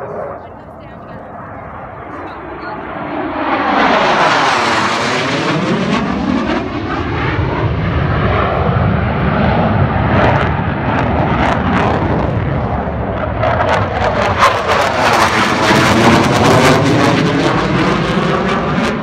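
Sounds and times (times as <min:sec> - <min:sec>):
aircraft flying overhead: 0:00.0 - 0:19.0.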